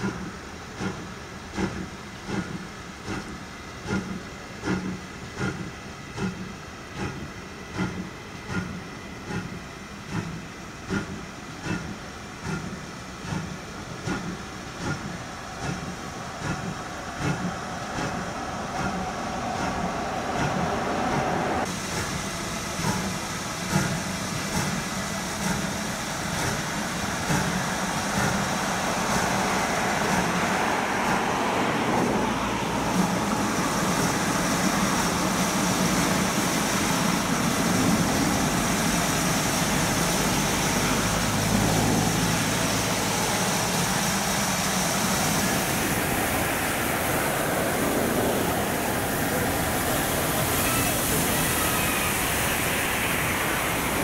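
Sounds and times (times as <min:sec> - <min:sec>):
steam hissing: 0:00.0 - 0:54.0.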